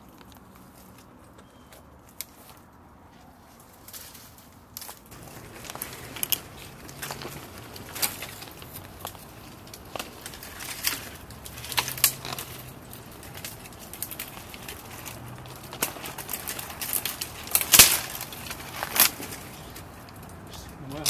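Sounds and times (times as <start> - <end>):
branches cracking and snapping: 0.0 - 21.0
rustling of branches: 0.0 - 21.0.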